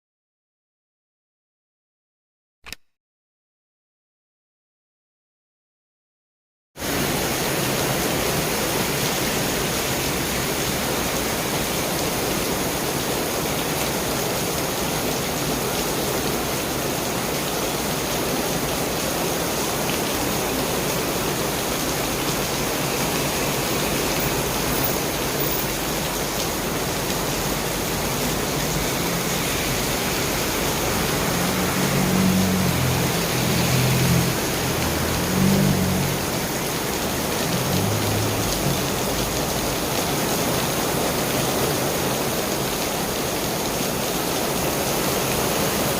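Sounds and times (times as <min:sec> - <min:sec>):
heavy rain: 0:06.8 - 0:45.9.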